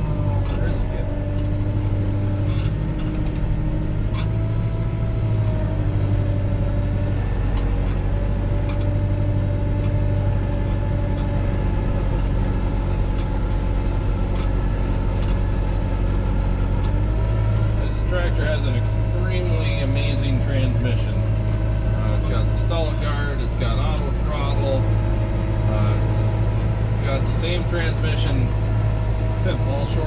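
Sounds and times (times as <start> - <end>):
faint whine: 0.0 - 30.0
tractor diesel engine running: 0.0 - 30.0.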